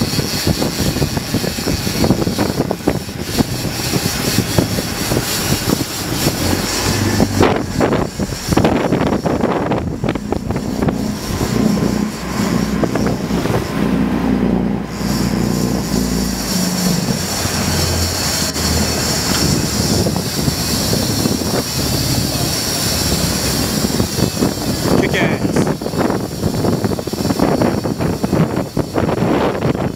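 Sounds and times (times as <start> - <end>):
boat engine running: 0.0 - 29.9
rushing water: 0.0 - 29.9
wind: 0.0 - 29.9.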